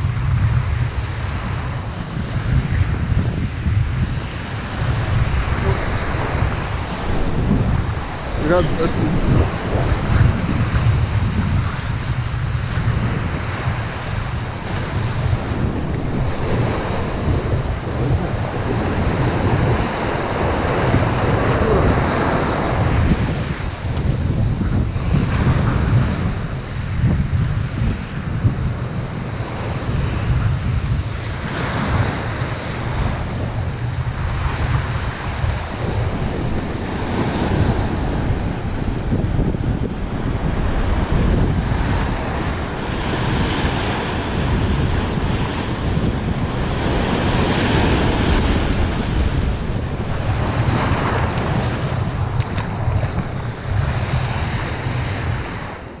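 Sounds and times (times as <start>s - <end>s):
wind buffeting microphone: 0.0s - 56.0s
surf breaking over rocks: 4.0s - 25.9s, 31.4s - 55.9s.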